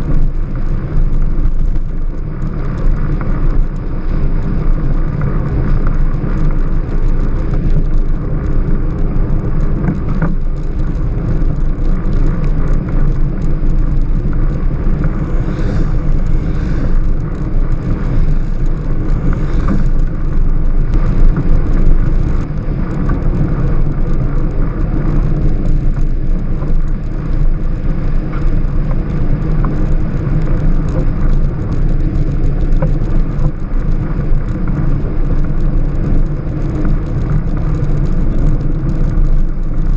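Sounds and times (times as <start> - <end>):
tyre and road noise: 0.0 - 39.9
wind: 0.0 - 39.9.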